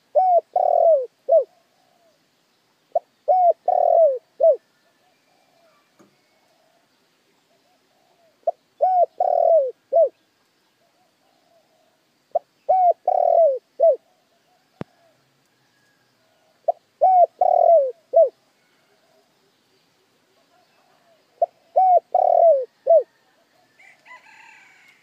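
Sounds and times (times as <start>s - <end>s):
dove cooing: 0.0s - 2.2s, 2.9s - 6.9s, 7.5s - 10.2s, 10.8s - 15.2s, 16.3s - 19.4s, 20.4s - 24.9s.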